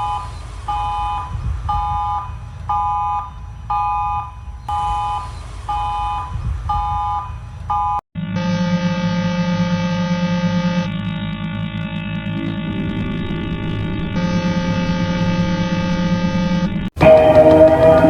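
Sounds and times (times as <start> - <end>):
steady droning tone: 0.0 - 5.4, 7.3 - 18.0
electronic alarm beeping: 0.0 - 18.0
low rumble: 0.0 - 18.0.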